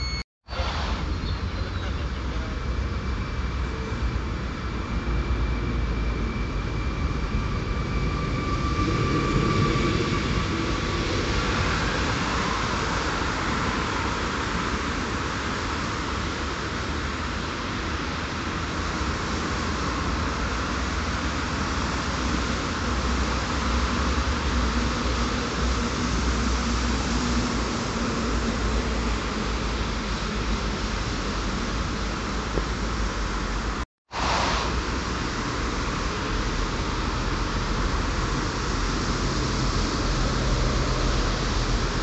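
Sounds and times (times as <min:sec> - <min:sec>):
departing train rushing: 0:00.0 - 0:42.0
road traffic: 0:00.0 - 0:42.0.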